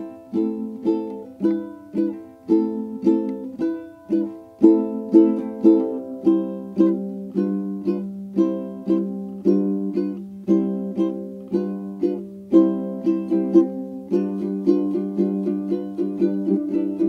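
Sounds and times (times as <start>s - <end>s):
plucked-string tune with beat: 0.0s - 17.0s.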